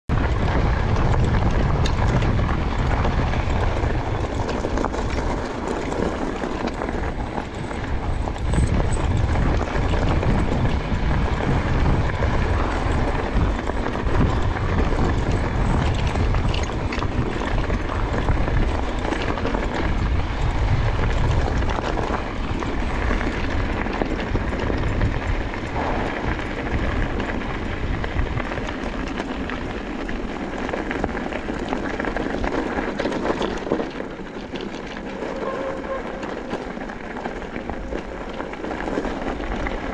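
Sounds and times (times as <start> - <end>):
tyres crunching on gravel: 0.1 - 39.9
wind rumble on microphone: 0.1 - 39.9.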